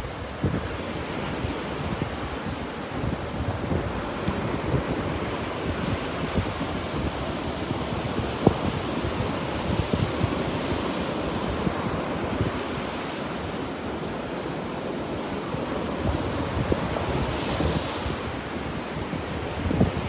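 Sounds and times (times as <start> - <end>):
surf washing up beach: 0.0 - 20.0
wind buffeting microphone: 0.0 - 20.0.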